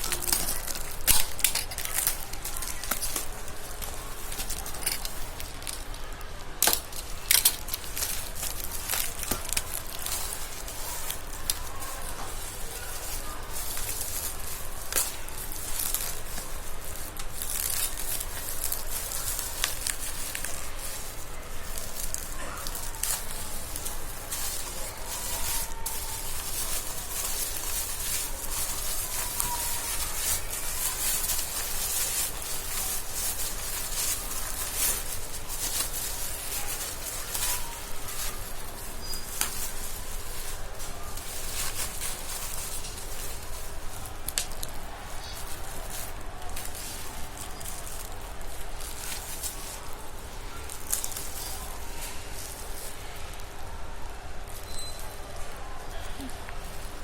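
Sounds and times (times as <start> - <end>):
packaging crinkling: 0.0 - 57.0.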